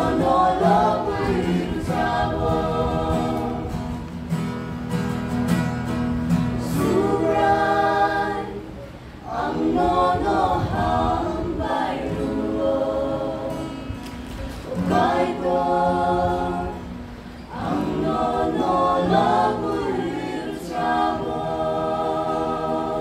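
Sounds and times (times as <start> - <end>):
group singing in harmony: 0.0 - 4.4, 6.3 - 23.0.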